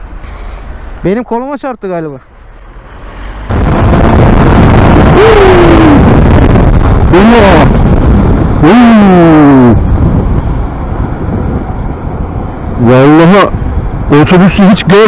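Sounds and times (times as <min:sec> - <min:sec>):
motorcycle riding at speed: 0:02.3 - 0:15.0
wind noise on microphone: 0:02.7 - 0:15.0.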